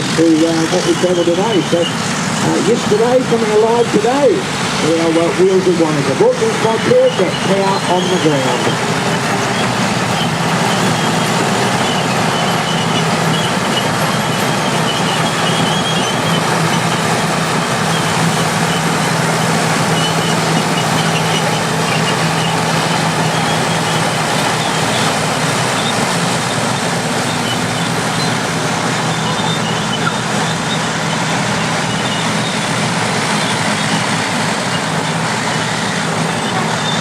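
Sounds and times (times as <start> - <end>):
bulldozer engines running: 0.0 - 37.0.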